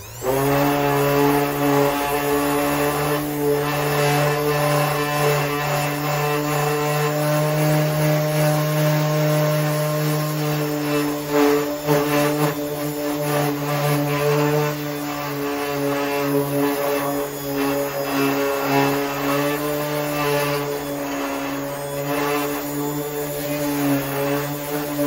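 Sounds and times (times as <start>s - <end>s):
machine drone: 0.0s - 25.0s.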